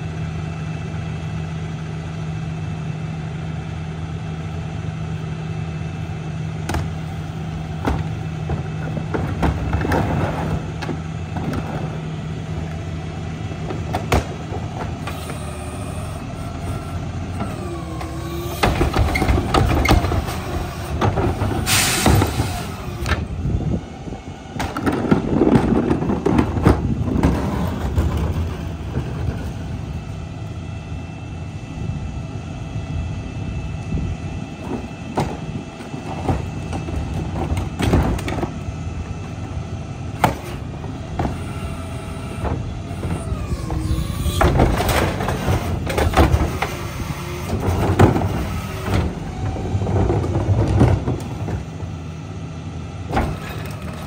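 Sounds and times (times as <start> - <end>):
garbage truck engine running: 0.0 - 54.0.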